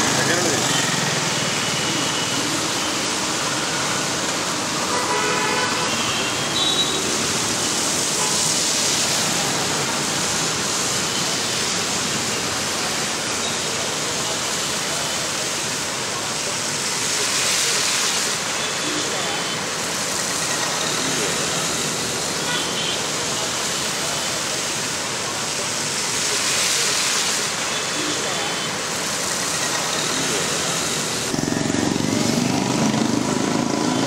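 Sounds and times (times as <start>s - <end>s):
motor traffic: 0.0s - 25.4s, 27.4s - 34.0s
rain hiss: 0.0s - 34.0s
tyres splashing through water: 0.0s - 34.0s.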